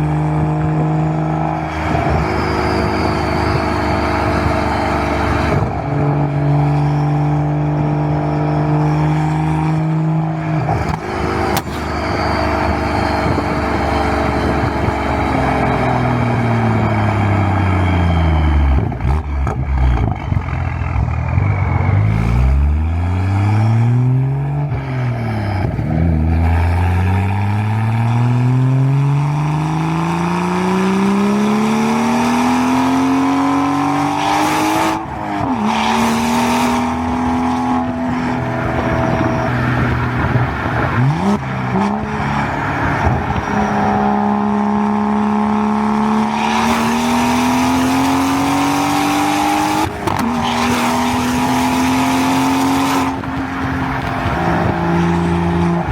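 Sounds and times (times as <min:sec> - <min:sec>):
car engine accelerating through gears: 0:00.0 - 0:55.9.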